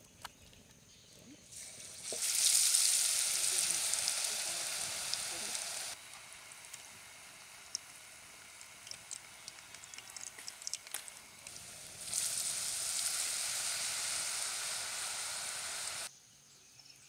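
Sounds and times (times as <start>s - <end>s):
faint hiss with small crackles: 0.0s - 16.1s
batter frying in hot oil: 1.5s - 16.1s.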